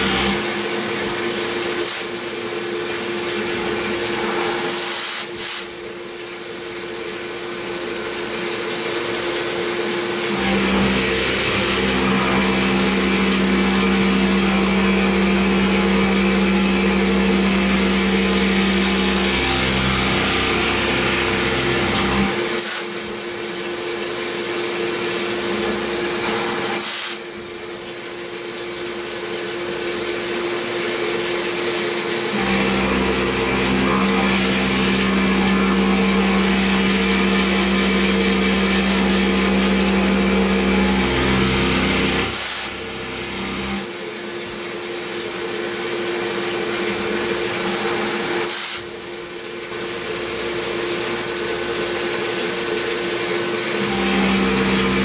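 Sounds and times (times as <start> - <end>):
milling machine spindle whine: 0.0 - 55.0.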